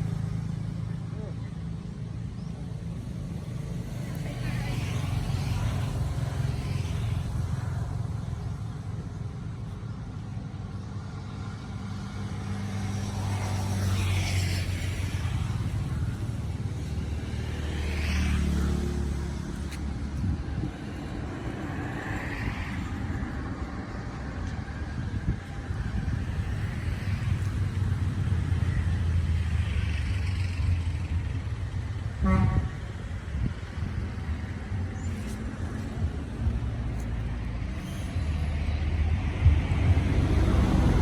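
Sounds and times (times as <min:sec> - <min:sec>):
vehicles passing: 0:00.0 - 0:41.0.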